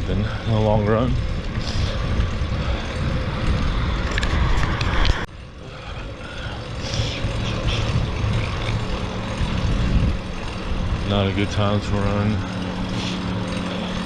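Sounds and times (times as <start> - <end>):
low rumbling wind noise: 0.0 - 14.0.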